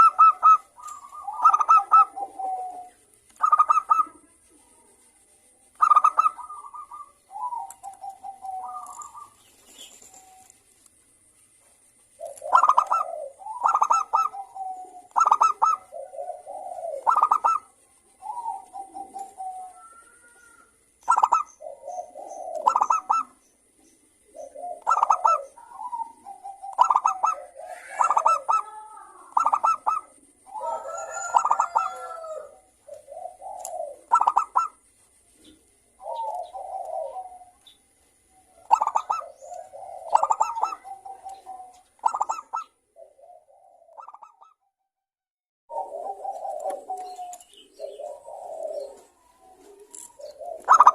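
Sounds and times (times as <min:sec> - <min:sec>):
doves cooing: 0:00.0 - 0:44.5, 0:45.7 - 0:50.9.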